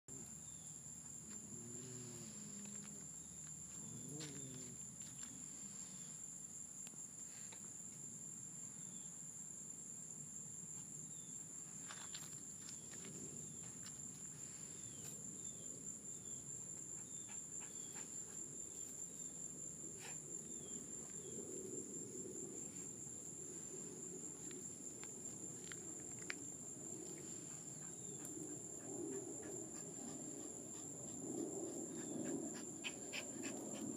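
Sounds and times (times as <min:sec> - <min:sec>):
crickets chorus: 0:00.1 - 0:33.9.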